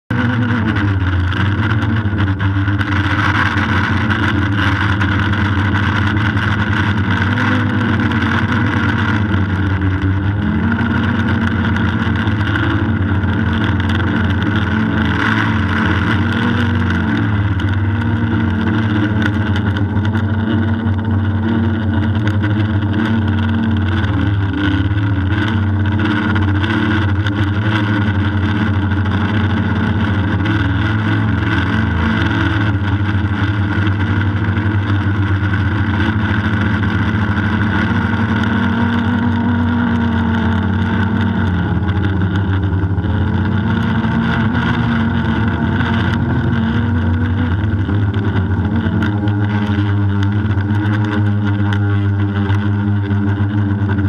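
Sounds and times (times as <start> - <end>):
drone propellers buzzing: 0.1 - 54.0.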